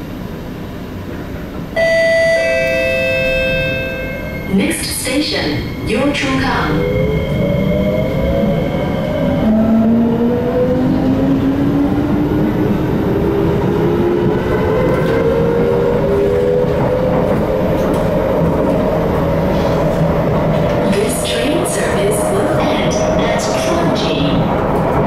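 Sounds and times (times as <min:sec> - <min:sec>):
train wheels rumbling on track: 0:00.0 - 0:01.9, 0:03.4 - 0:25.0.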